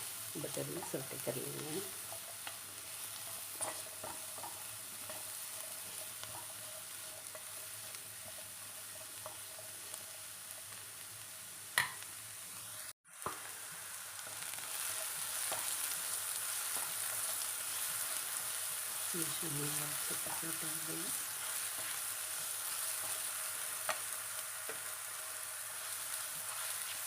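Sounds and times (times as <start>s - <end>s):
mushrooms sizzling in pan: 0.0s - 27.0s.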